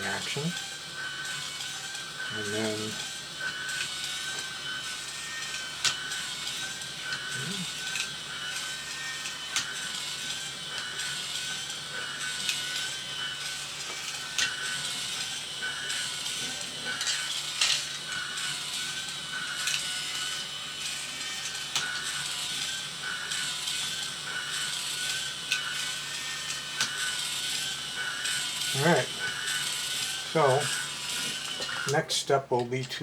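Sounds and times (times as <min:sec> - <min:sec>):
small electric motor whirring: 0:00.0 - 0:32.7.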